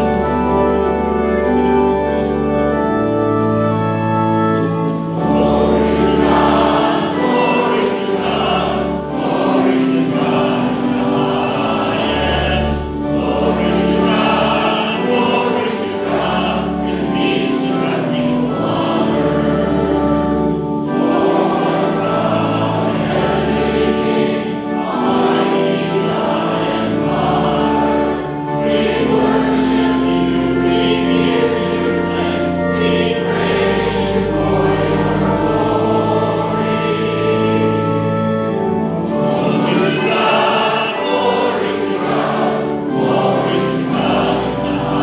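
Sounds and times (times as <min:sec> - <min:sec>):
church organ chords: 0:00.0 - 0:45.0
congregation singing: 0:00.0 - 0:45.0.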